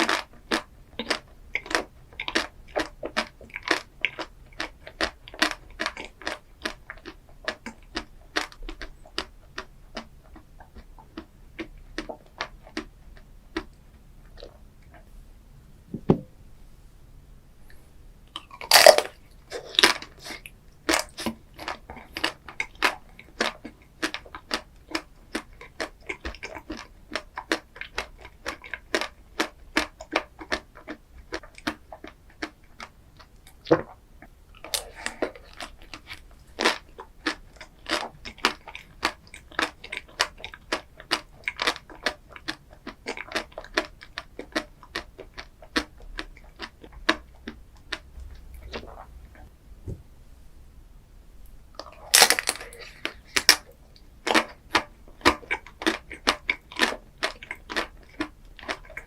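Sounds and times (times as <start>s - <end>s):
chewing and crunching ice cream: 0.0s - 15.1s, 18.3s - 49.5s, 51.7s - 59.0s.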